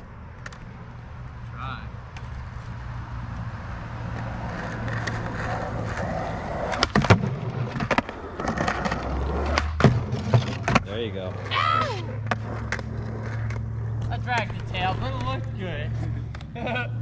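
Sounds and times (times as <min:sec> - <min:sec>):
skateboard wheels rolling: 0:00.0 - 0:01.3, 0:02.1 - 0:16.8.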